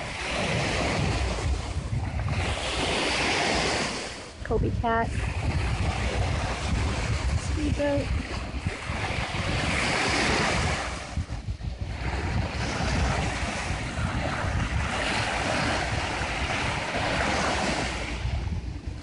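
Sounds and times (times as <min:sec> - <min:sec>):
small waves washing on shore: 0:00.0 - 0:19.0
wind buffeting microphone: 0:00.0 - 0:19.0.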